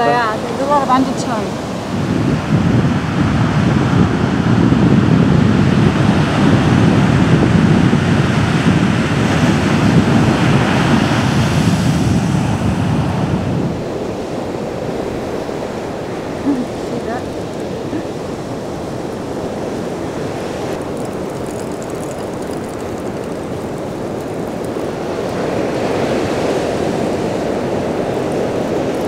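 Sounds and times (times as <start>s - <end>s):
ocean waves crashing: 0.0s - 29.0s
wind on microphone: 0.0s - 29.0s.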